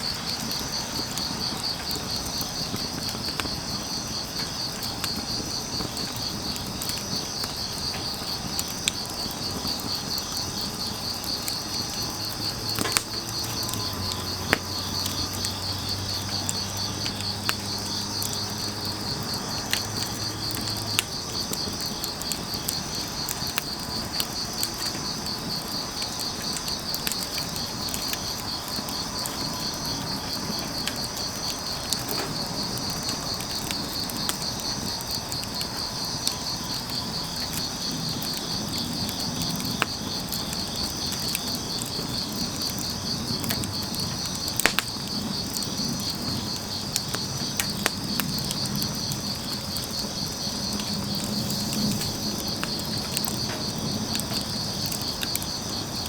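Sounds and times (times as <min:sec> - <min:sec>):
crickets chirping: 0:00.0 - 0:56.0
fire crackling and popping: 0:00.0 - 0:56.0.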